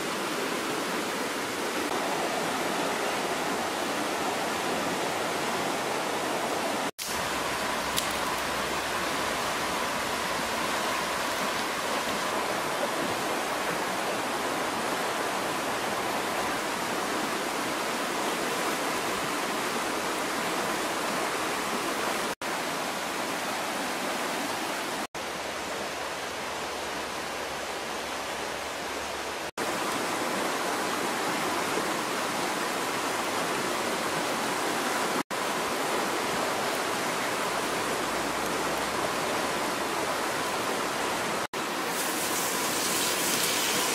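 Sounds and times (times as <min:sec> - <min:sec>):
fast-flowing river rushing: 0:00.0 - 0:43.9.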